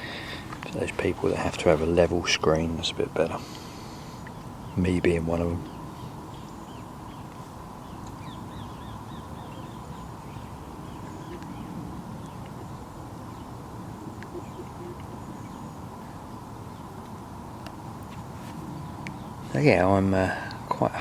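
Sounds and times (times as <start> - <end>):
birds calling: 0.0 - 21.0
low background rumble: 0.0 - 21.0.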